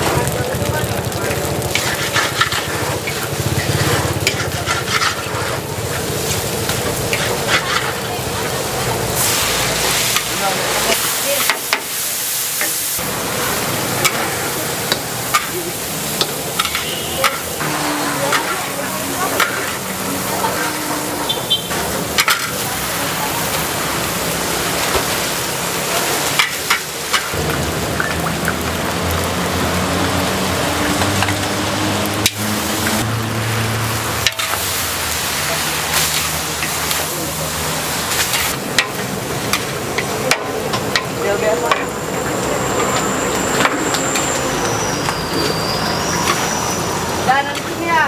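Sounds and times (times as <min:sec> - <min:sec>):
noodles sizzling in a wok: 0:00.0 - 0:48.0.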